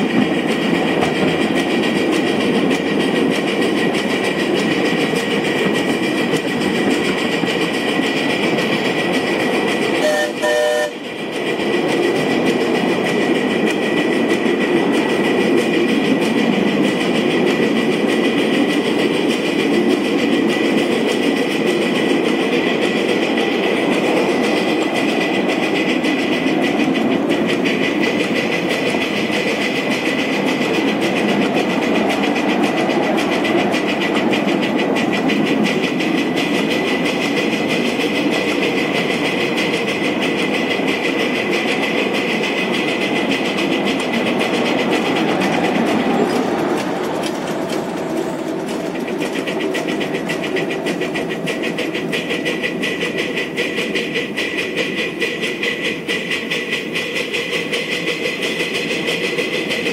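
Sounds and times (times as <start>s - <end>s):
steam locomotive running: 0.0s - 59.9s.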